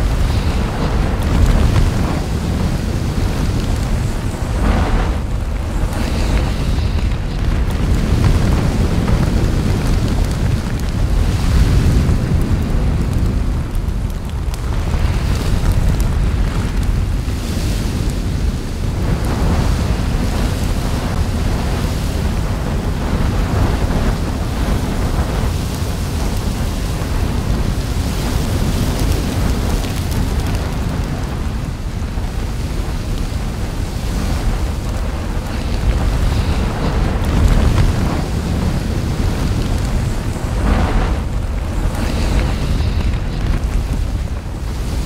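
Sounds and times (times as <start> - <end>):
volcano rumble and hiss effect: 0.0 - 45.0.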